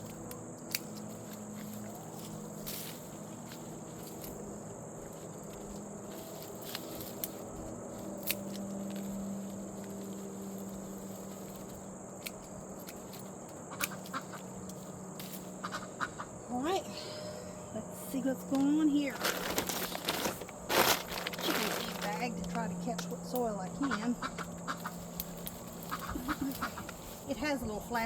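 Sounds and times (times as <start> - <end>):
clicks and rustles from soil: 0.0 - 15.8, 18.3 - 28.0
crickets trilling: 0.0 - 28.0
low steady hum: 0.0 - 28.0.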